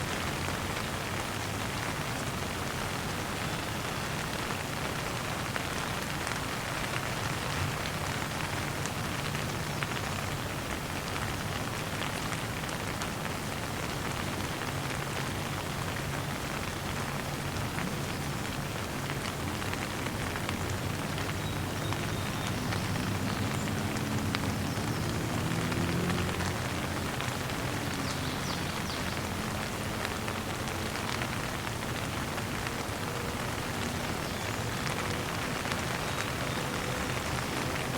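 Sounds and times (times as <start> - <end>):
light rain falling: 0.0 - 37.9.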